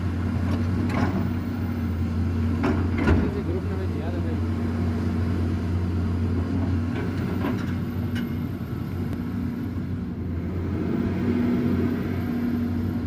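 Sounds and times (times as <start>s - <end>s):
truck engine low hum: 0.0s - 13.0s.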